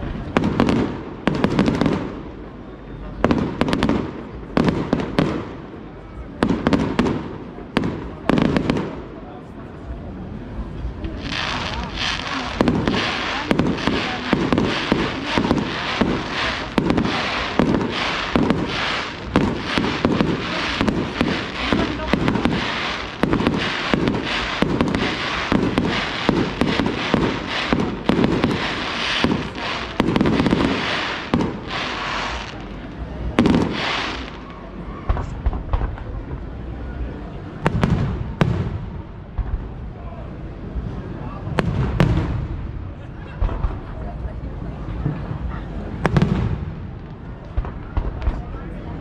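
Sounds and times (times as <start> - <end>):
fireworks bursting and crackling: 0.0 - 10.0, 10.6 - 49.0.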